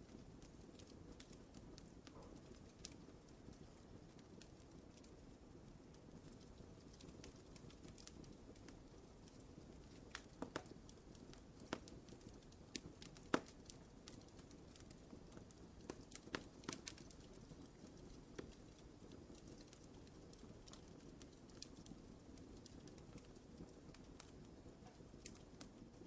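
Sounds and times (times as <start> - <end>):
soft hiss of burning: 0.0 - 26.0
wood fire crackling: 0.0 - 26.0.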